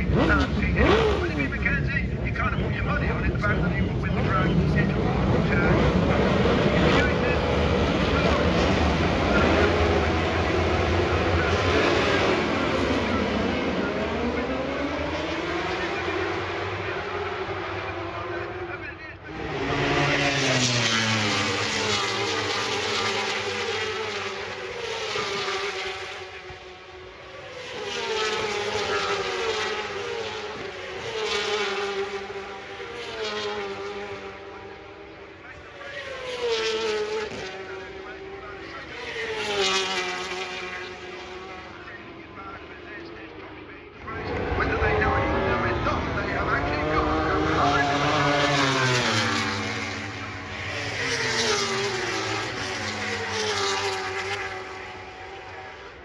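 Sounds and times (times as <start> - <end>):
racing motorcycle engines passing: 0.0 - 56.0.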